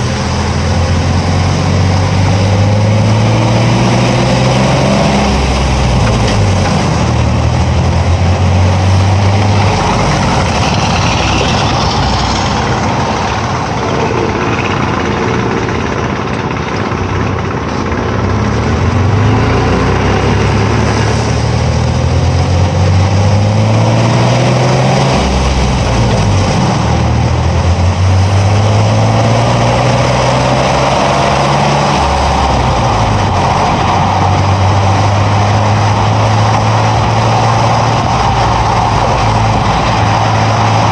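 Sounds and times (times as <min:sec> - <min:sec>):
truck engine drone: 0:00.0 - 0:40.9
tyre and road noise: 0:00.0 - 0:40.9.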